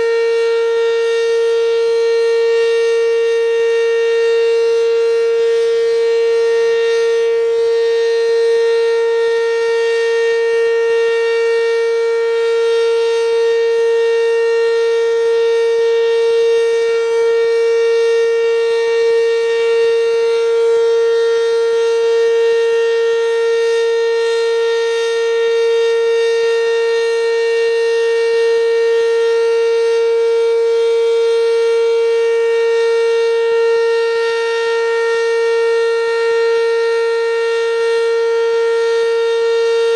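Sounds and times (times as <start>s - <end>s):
warning siren steady high note: 0.0s - 39.9s.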